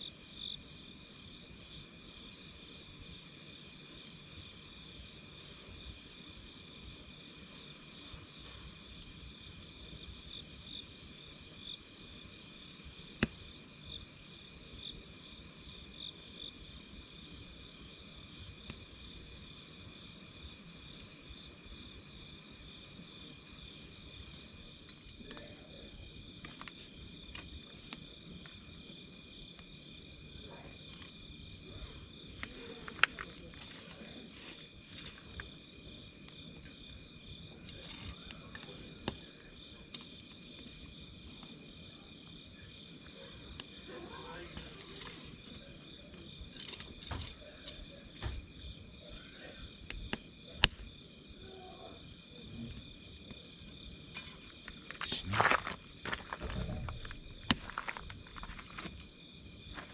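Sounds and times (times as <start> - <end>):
insects trilling: 0.0 - 59.9
wood fire crackling: 0.0 - 59.9.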